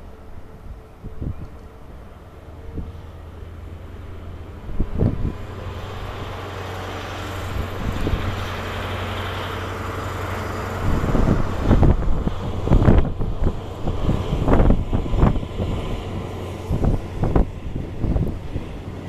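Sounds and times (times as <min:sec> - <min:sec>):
train diesel engine hum: 0:00.0 - 0:19.0
wind buffeting microphone: 0:00.3 - 0:19.0.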